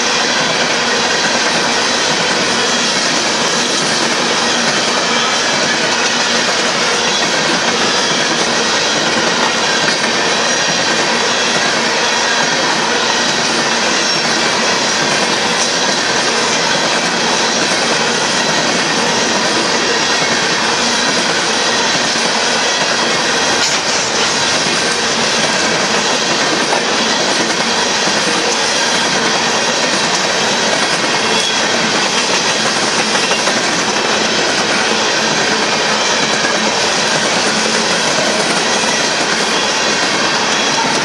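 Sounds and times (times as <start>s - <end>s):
faint high wheel squeal: 0.0s - 41.0s
train wheels rumbling on rail: 0.0s - 41.0s.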